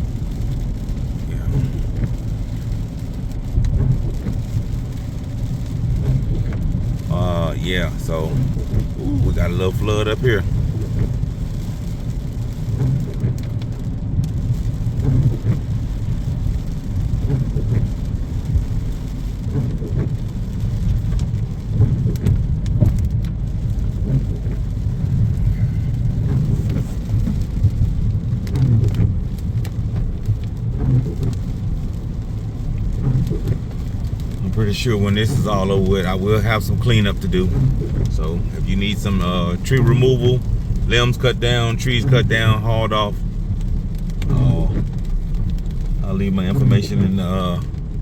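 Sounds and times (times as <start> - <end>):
car engine and road rumble: 0.0 - 48.0
water spraying from tyres: 0.0 - 48.0.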